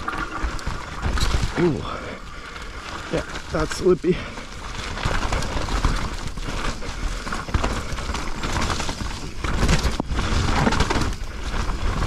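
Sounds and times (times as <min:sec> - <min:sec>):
bike clattering over bumps: 0:00.0 - 0:12.0
bike tyres on dirt: 0:00.0 - 0:12.0.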